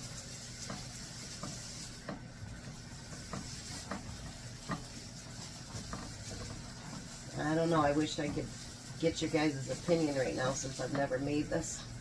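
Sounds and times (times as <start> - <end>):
butter sizzling in a skillet: 0.0 - 12.0.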